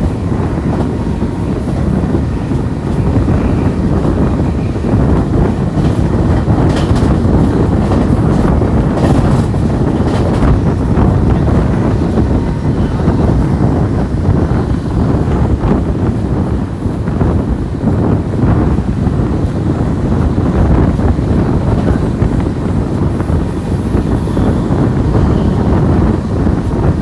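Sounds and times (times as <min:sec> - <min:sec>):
train wheels rumbling on rails: 0:00.0 - 0:27.0
wind rushing past: 0:00.0 - 0:27.0.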